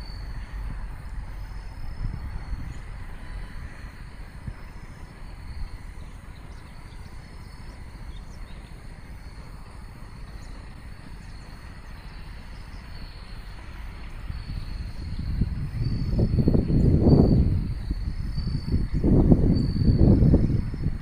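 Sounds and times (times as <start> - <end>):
insects chirping: 0.0 - 21.0
wind rumbling on microphone: 0.0 - 21.0.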